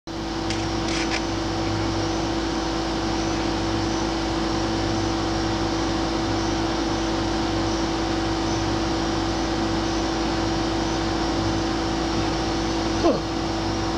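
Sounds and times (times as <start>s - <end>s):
mechanical hum and drone: 0.1s - 13.9s.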